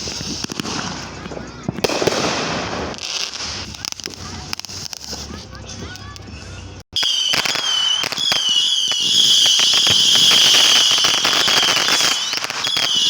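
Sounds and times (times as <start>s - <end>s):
firework whistling: 0.0s - 5.7s, 7.0s - 13.0s
firework crackling pops: 0.0s - 6.3s, 7.0s - 13.0s.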